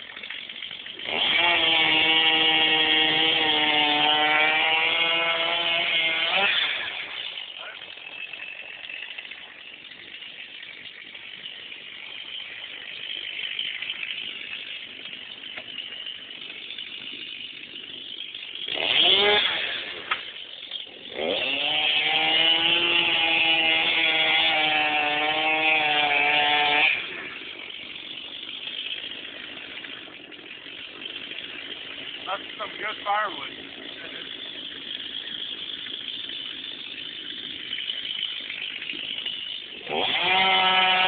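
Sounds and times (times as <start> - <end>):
chainsaw revving: 0.0 - 41.0
engine drone: 0.0 - 41.0.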